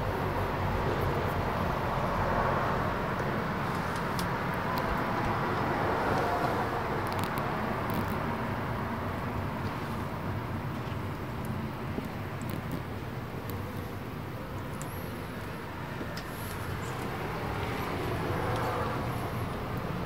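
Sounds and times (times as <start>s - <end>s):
distant road traffic: 0.0s - 20.0s.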